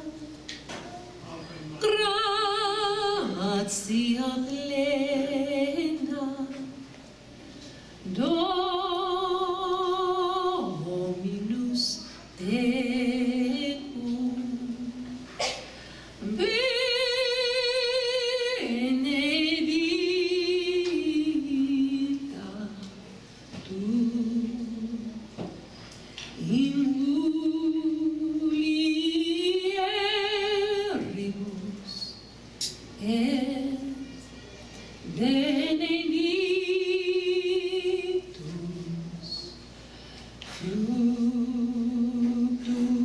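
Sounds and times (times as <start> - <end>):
women singing unaccompanied: 1.8 - 6.8, 8.1 - 15.2, 16.2 - 25.3, 26.4 - 32.2, 33.0 - 34.0, 35.1 - 39.6, 40.5 - 43.0.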